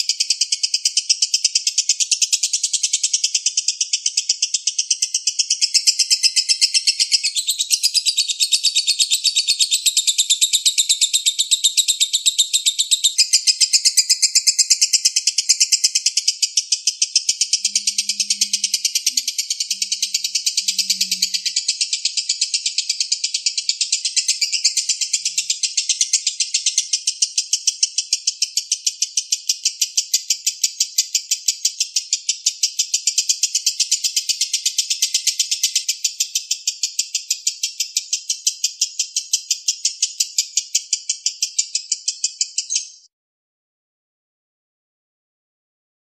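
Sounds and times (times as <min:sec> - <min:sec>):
bird high-pitched chattering: 0:00.0 - 0:43.0.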